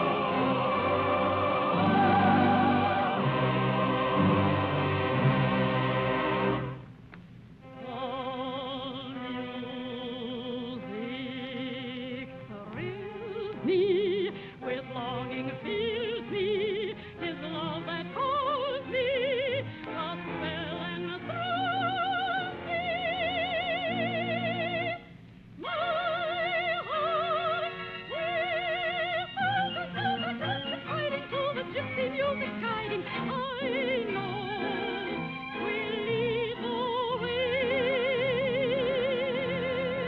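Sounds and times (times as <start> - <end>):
operetta singing with orchestra: 0.0 - 6.8, 7.8 - 25.0, 25.6 - 40.0.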